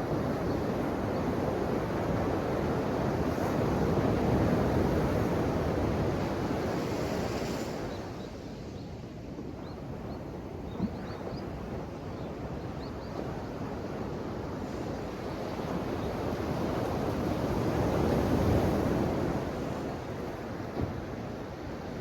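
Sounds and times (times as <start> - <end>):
ocean waves washing onto shore: 0.0 - 22.0.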